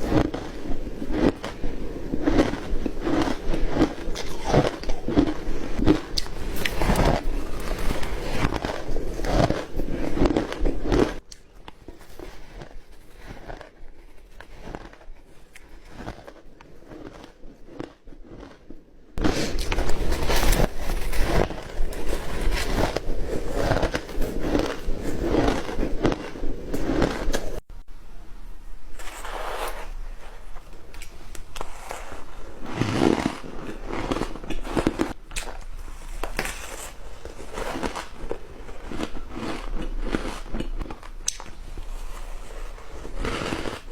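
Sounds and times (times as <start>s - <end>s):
crunching ice: 0.0s - 27.6s, 31.6s - 43.9s.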